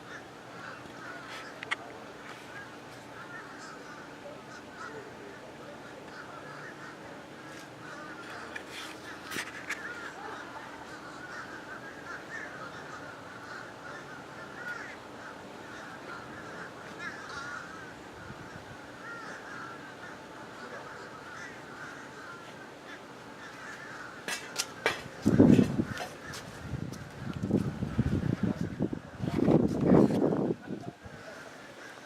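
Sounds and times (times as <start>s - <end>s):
flock of birds calling: 0.0s - 32.0s.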